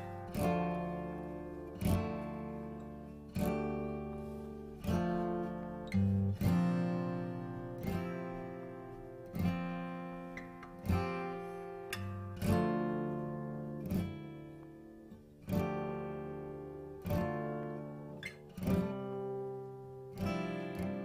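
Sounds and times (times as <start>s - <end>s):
acoustic guitar strummed chords: 0.0s - 21.0s.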